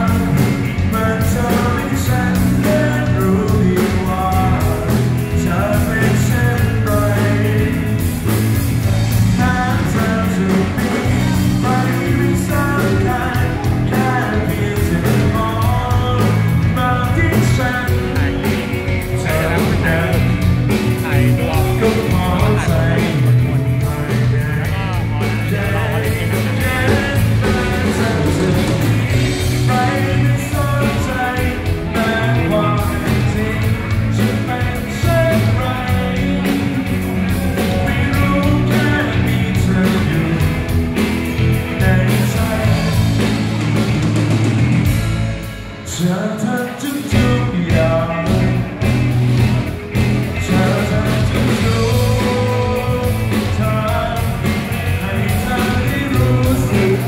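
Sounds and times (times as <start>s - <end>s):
man singing into a microphone: 0.0s - 43.4s, 45.8s - 49.7s, 50.3s - 57.0s
rock band playing: 0.0s - 57.0s.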